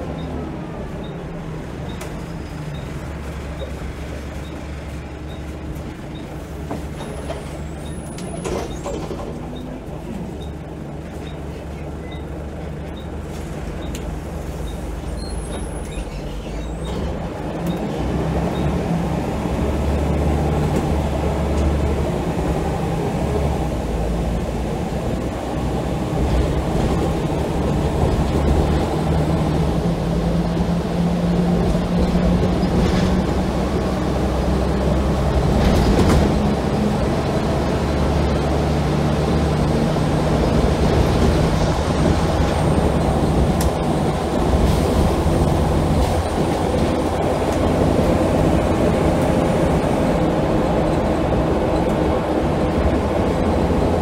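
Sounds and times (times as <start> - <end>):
bus diesel engine pulling: 0.0 - 54.0.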